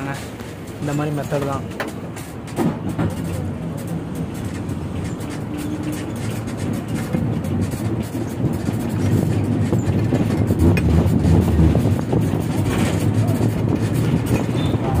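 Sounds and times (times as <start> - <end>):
bus engine and road rumble: 0.0 - 15.0
rattle: 1.7 - 15.0.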